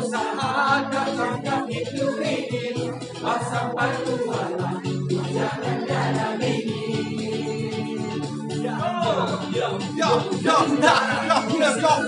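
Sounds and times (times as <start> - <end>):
group of voices singing: 0.0 - 12.0
music playing: 0.0 - 12.0.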